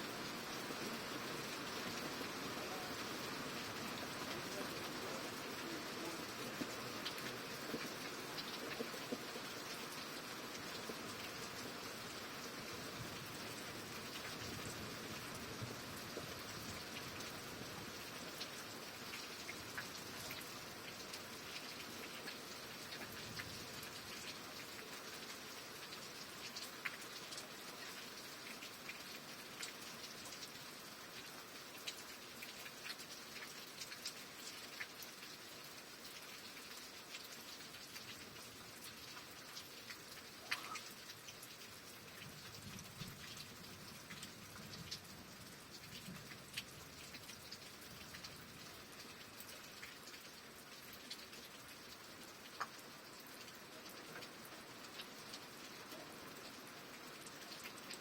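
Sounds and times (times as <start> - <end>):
steady rain: 0.0 - 58.0
raindrops tapping on a surface: 3.7 - 58.0.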